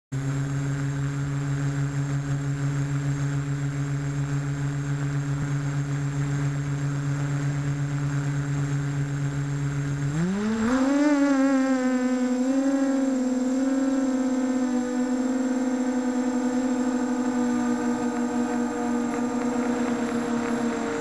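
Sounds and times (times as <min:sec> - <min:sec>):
quadcopter motors humming: 0:00.2 - 0:21.0.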